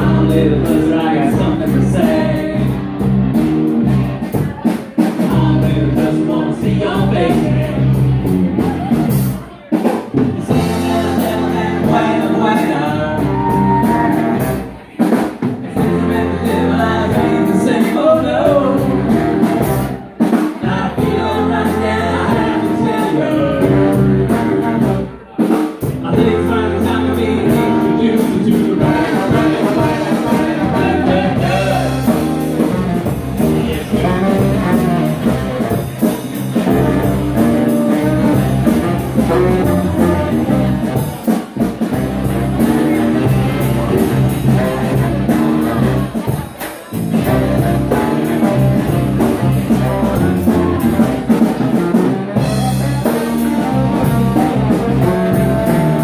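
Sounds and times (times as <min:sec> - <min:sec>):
live blues-rock band with horn: 0:00.0 - 0:56.0.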